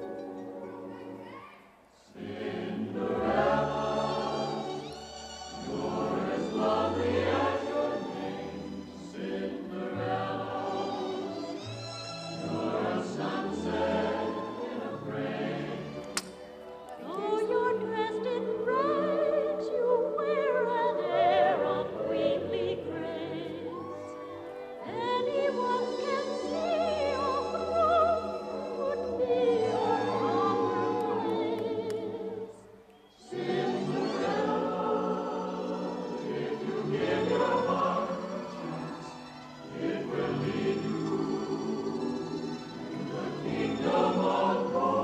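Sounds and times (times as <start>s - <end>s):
operatic choral singing: 2.0s - 45.0s.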